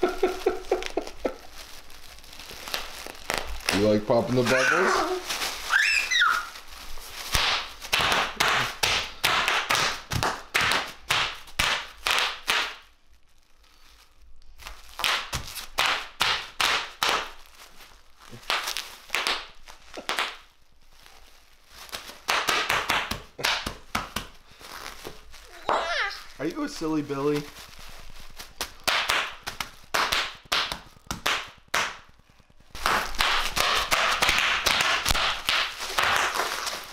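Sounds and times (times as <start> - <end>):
bubble wrap popping: 0.0 - 36.9.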